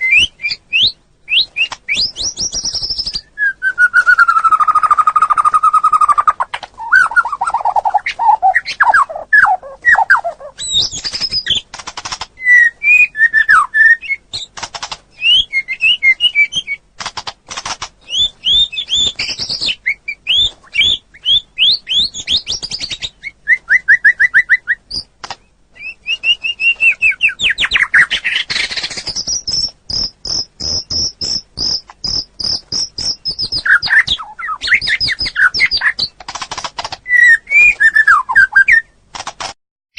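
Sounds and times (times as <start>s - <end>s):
songbird singing: 0.0s - 16.9s, 17.9s - 36.2s, 36.9s - 39.0s
sharp clicking bird notes: 0.1s - 3.2s, 3.8s - 25.5s, 26.2s - 39.6s.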